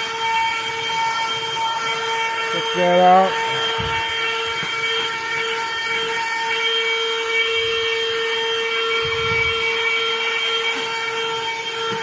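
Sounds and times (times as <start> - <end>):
handheld vacuum cleaner whine: 0.0 - 12.0.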